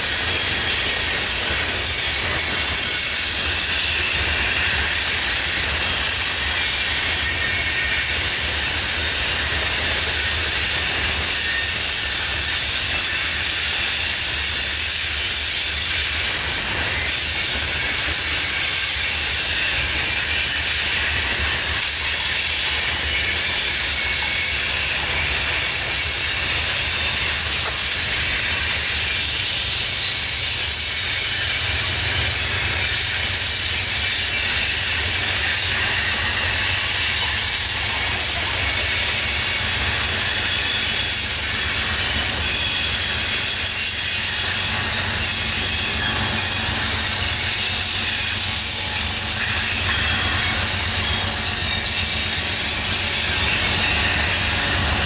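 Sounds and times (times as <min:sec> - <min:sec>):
freight train wheels hissing on rails: 0:00.0 - 0:55.0
low rumble of freight train: 0:00.0 - 0:55.0.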